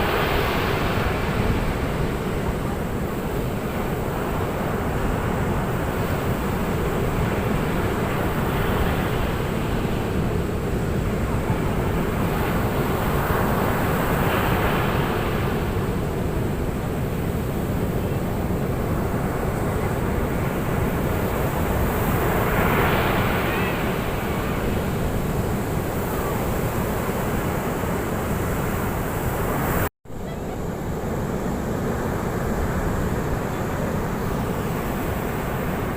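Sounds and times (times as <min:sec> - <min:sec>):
ocean surf breaking: 0:00.0 - 0:35.9.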